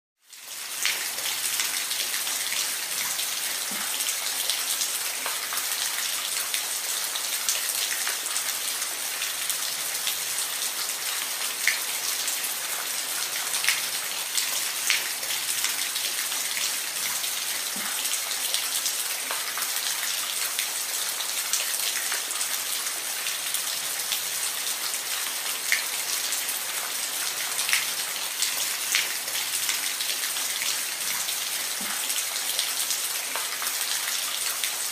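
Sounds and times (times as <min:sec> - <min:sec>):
steady rain falling: 0:00.3 - 0:34.9.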